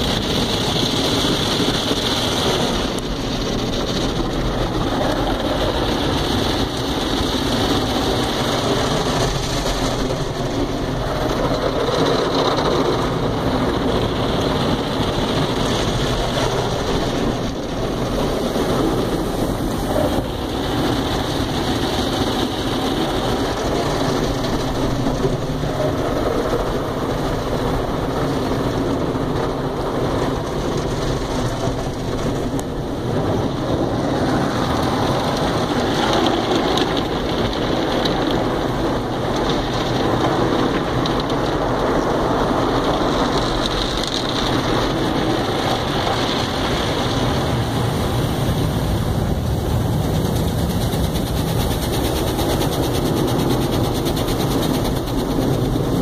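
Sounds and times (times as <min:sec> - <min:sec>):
water spray drumming on car: 0:00.0 - 0:56.0.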